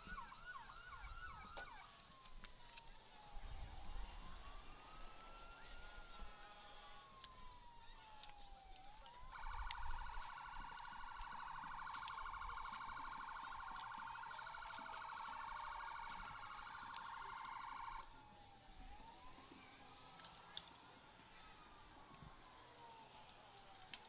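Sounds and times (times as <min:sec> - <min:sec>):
rapid warbling siren: 0:00.0 - 0:24.0
wailing siren: 0:00.0 - 0:24.0.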